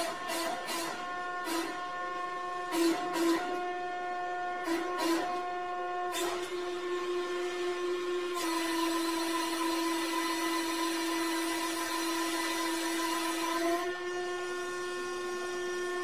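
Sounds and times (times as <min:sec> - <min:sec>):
hydraulic pump motor hum: 0:00.0 - 0:16.0.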